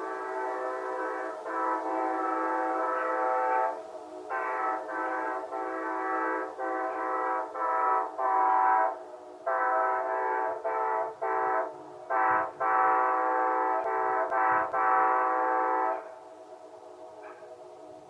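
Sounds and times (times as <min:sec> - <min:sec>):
locomotive air horn blasts: 0:00.0 - 0:16.1.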